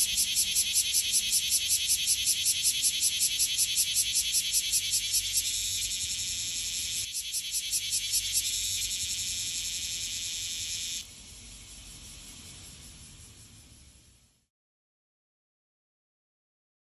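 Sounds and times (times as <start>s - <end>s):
cicada buzzing: 0.0s - 14.4s
faint distant cicadas: 0.0s - 14.5s.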